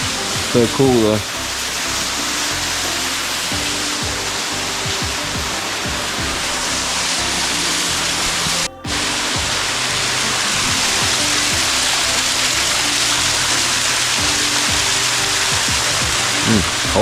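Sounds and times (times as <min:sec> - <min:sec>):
music playing: 0:00.0 - 0:17.0
waterfall rushing: 0:00.0 - 0:17.0.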